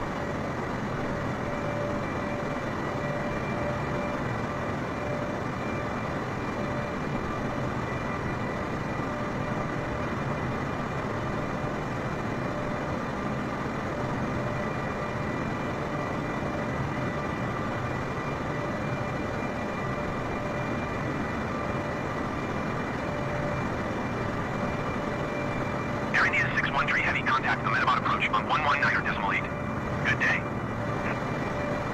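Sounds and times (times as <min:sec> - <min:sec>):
faint steady whines: 0:00.0 - 0:31.9
jet airliner engines: 0:00.0 - 0:31.9.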